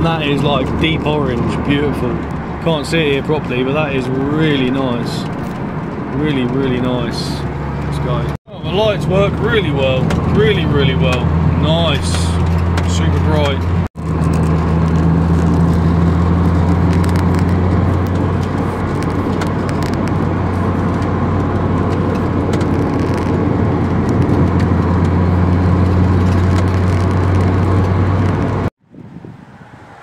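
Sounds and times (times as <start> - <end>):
car engine droning: 0.0 - 28.7
road and tyre noise: 0.0 - 30.0.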